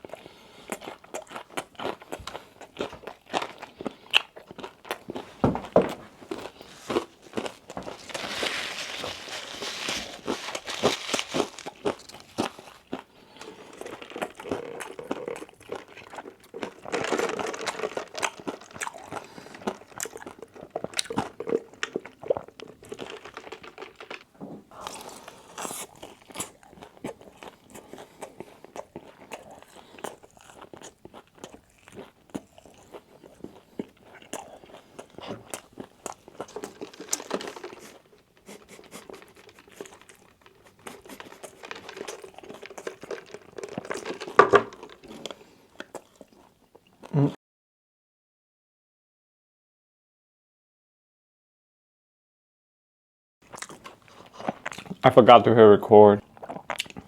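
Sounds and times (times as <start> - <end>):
crunching crispy fried food: 0.0 - 5.3, 6.2 - 46.8, 53.4 - 55.4, 56.2 - 57.0.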